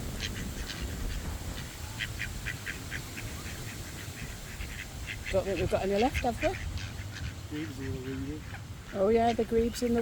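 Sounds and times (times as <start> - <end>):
ducklings peeping: 0.1 - 10.0.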